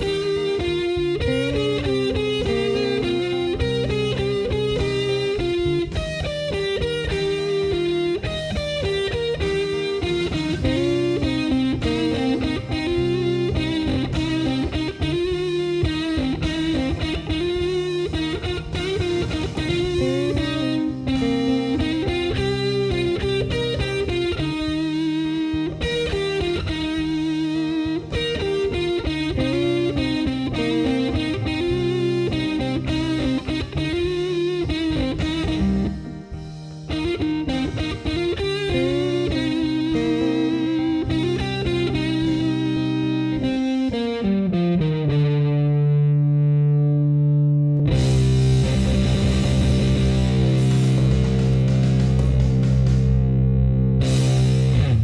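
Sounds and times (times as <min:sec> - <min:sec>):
drums: 0:00.0 - 0:44.2, 0:47.9 - 0:55.0
distorted electric guitar lead: 0:00.0 - 0:55.0
low backing: 0:00.0 - 0:55.0.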